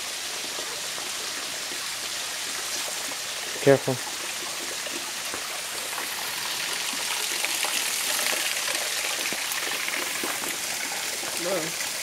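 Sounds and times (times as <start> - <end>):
creek trickling over stones: 0.0 - 12.0.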